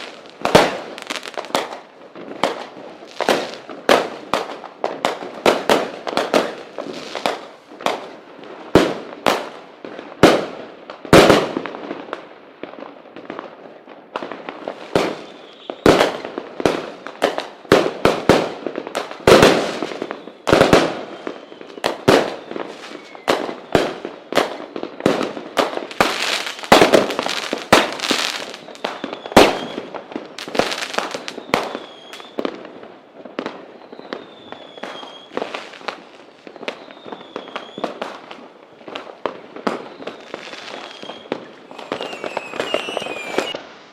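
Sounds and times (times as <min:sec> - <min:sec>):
fireworks banging: 0:00.0 - 0:12.2, 0:13.2 - 0:43.8
fireworks crackling: 0:00.0 - 0:43.9.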